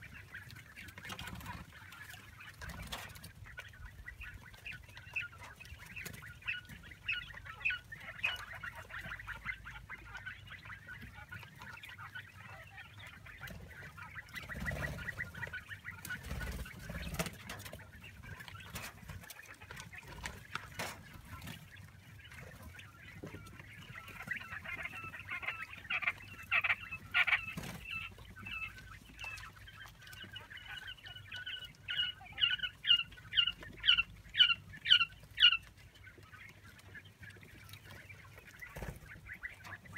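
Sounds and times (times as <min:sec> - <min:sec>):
quail chicks peeping: 0:00.0 - 0:39.9.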